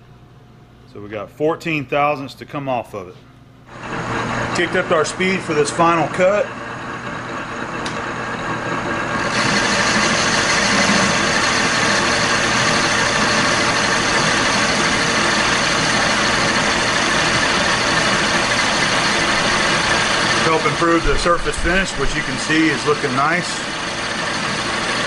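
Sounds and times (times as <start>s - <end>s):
lathe tool cutting hiss: 3.7s - 25.0s
metal lathe humming: 3.7s - 25.0s.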